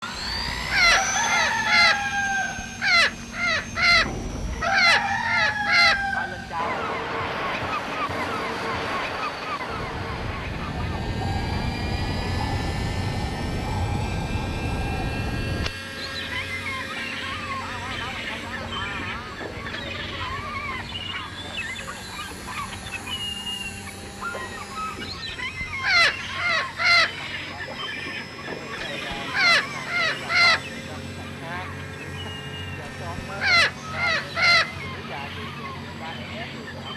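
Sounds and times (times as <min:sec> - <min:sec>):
bird harsh calls: 0:00.0 - 0:36.9
faint low hum: 0:00.0 - 0:36.9
thin high-pitched whine: 0:00.0 - 0:36.9.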